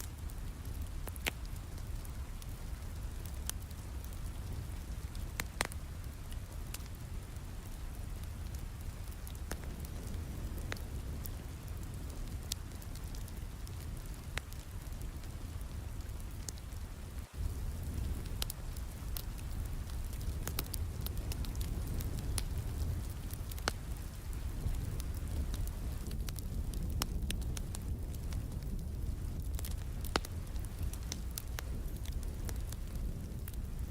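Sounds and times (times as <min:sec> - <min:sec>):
fireplace crackling: 0:00.0 - 0:33.9
steady rain hiss: 0:00.0 - 0:33.9.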